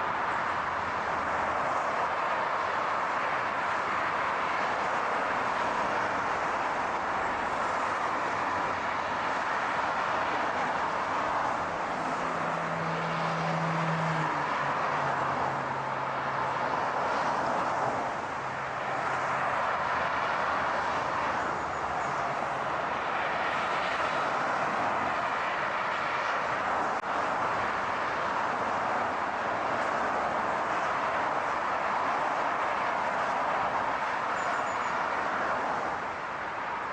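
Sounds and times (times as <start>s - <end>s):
car tyres and engine rush: 0.0s - 36.9s.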